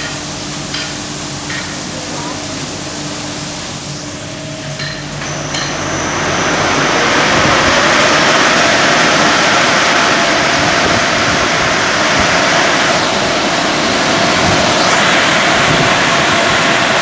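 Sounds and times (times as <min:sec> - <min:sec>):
car wash machinery running: 0:00.0 - 0:17.0
water spraying: 0:00.0 - 0:17.0.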